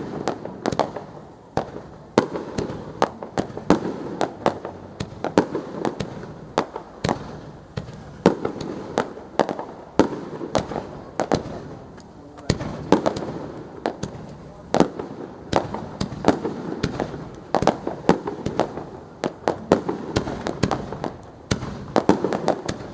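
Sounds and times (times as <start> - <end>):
fireworks bangs: 0.0 - 22.9.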